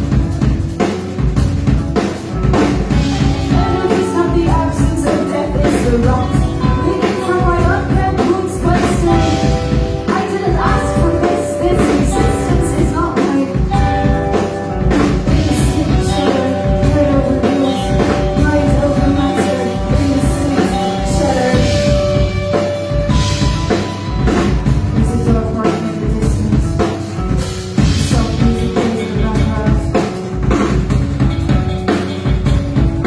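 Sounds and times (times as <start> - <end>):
drum kit steady beat: 0.0 - 33.0
sustained electric guitar lines: 0.0 - 33.0.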